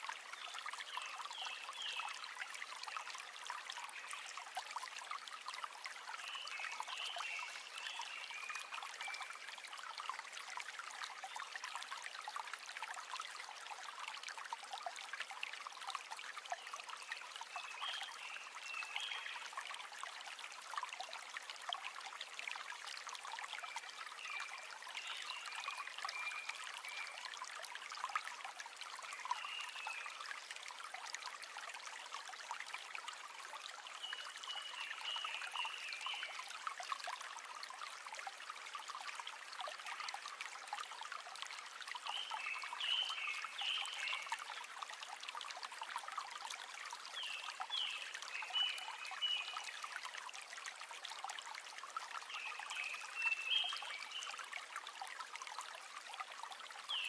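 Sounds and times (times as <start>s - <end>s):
river water trickling and splashing: 0.0s - 57.0s.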